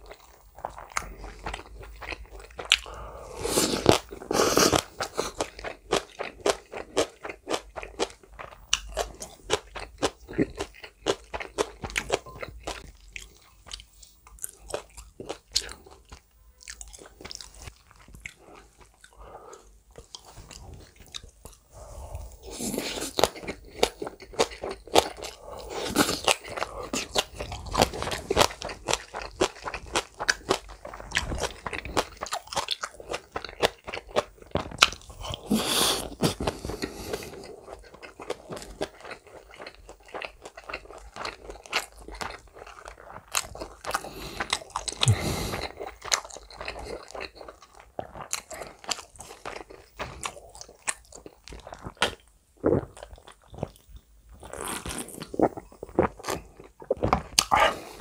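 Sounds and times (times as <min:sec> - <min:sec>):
close chewing with crunching: 0:00.0 - 0:58.0.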